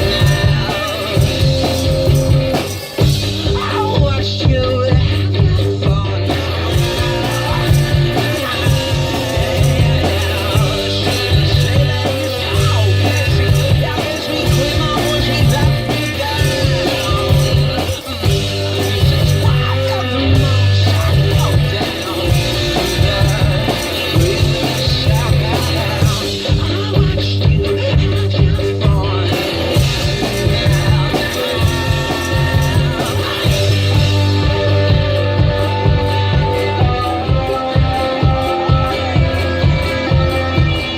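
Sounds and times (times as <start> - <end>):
drum kit beat: 0.0 - 40.9
guitar and bass guitar: 0.0 - 40.9.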